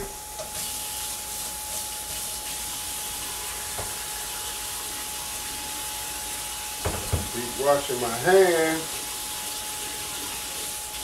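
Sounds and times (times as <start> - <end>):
patties sizzling on grill: 0.0 - 11.0
water running into sink: 0.0 - 11.0.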